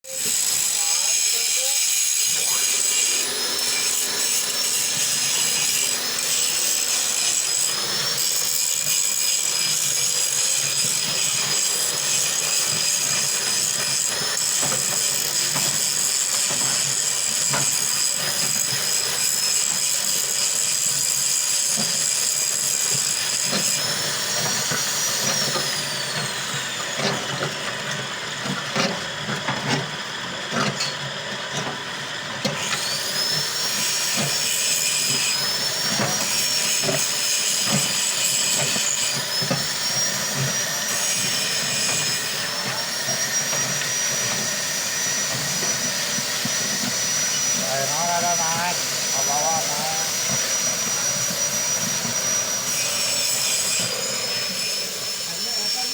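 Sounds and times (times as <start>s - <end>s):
machine motor whine: 0.2s - 55.9s.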